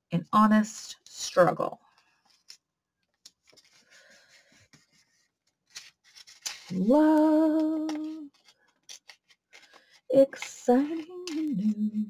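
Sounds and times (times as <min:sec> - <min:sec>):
paper stickers rustling: 0:02.1 - 0:12.0.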